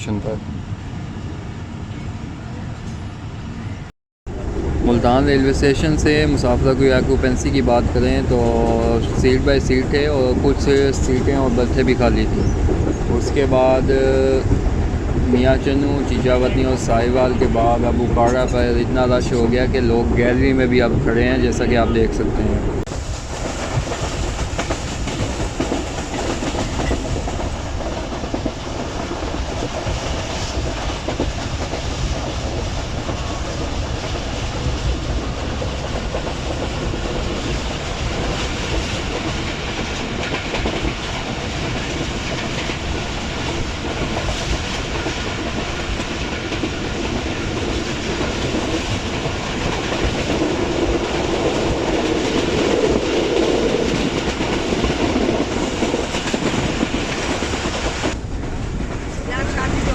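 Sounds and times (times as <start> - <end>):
train wheels rumbling on track: 0.0 - 59.9
clickety-clack over rail joints: 5.0 - 22.2, 22.9 - 59.9.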